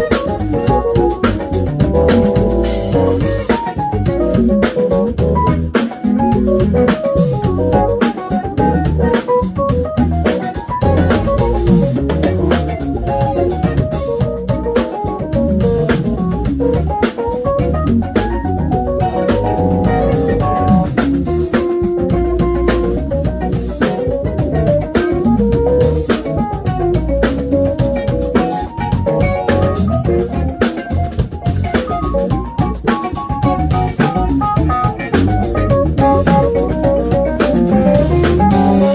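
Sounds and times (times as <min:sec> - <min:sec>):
jazz band playing: 0:00.0 - 0:38.9.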